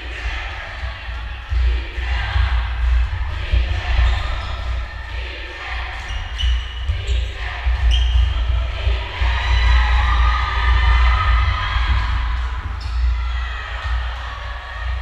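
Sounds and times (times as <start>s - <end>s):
voices in a large hall: 0.0s - 15.0s.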